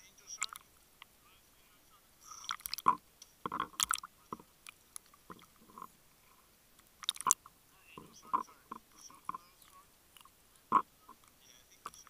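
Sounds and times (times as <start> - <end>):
underwater clicks and crackles: 0.3 - 1.1, 2.3 - 6.0, 6.7 - 12.0.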